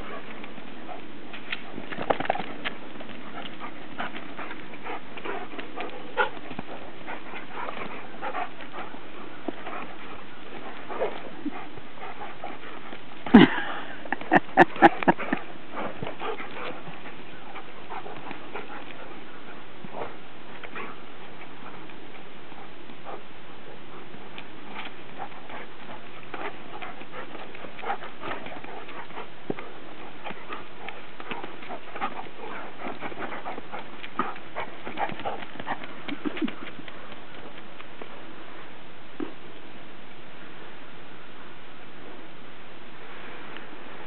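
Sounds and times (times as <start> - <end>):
dogs scuffling: 0.0 - 13.5, 14.1 - 38.4.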